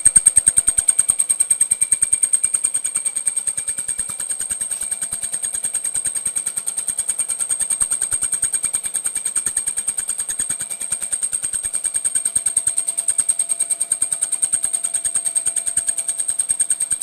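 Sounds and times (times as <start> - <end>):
rapid mechanical ticking: 0.0 - 17.0.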